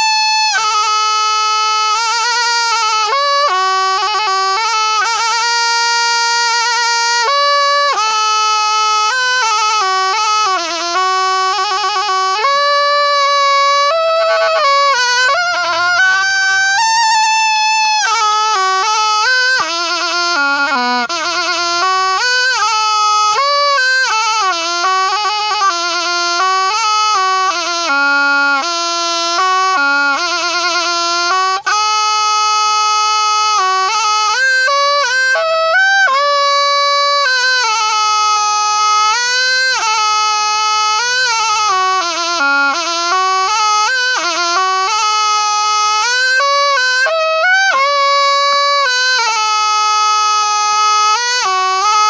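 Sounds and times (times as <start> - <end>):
oboe melody with trills: 0.0 - 52.0.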